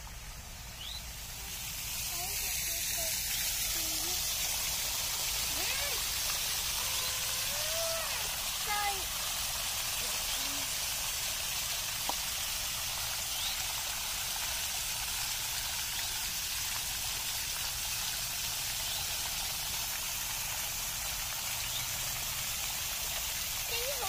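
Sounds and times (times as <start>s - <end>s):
water splashing into pool: 0.0s - 24.0s.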